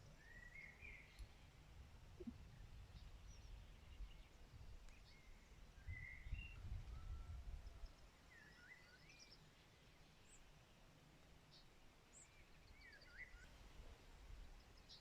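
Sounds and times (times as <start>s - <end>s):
faint songbird calls: 0.0s - 10.6s, 11.4s - 13.6s.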